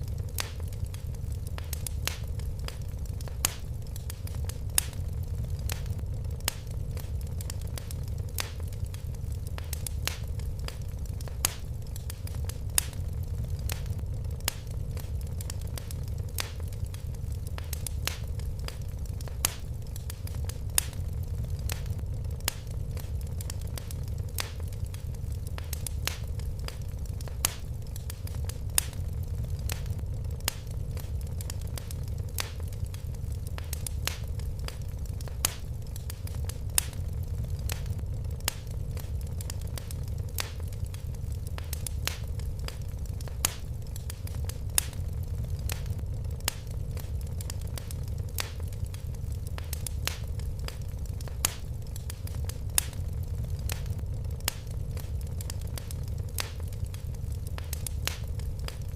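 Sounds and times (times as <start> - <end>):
fireplace fire crackling: 0.0 - 58.9.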